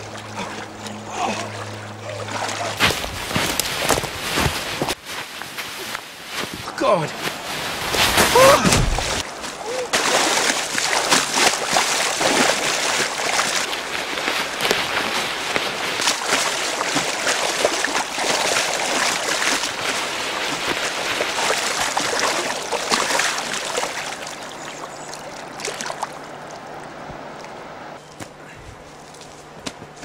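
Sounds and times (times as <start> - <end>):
water rushing and splashing: 0.0 - 5.0, 5.6 - 28.0.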